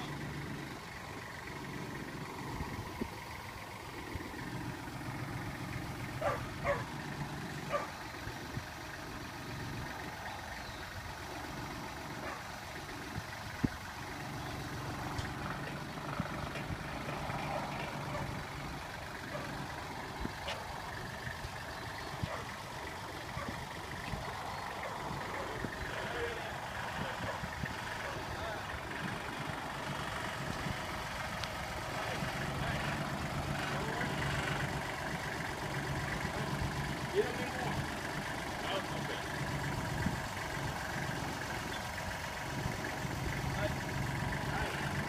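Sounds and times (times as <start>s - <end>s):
tractor engine running under load: 0.0s - 45.0s.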